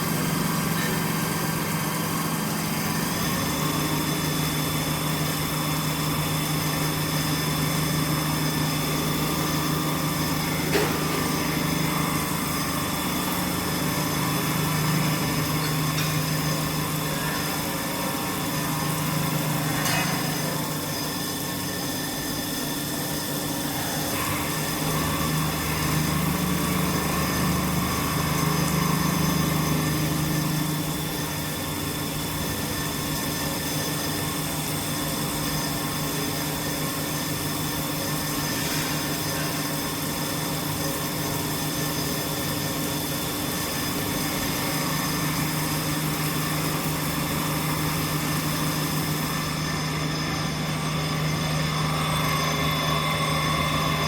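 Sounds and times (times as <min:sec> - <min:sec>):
drilling machine milling metal: 0:00.0 - 0:54.0
spindle whine: 0:00.0 - 0:54.0.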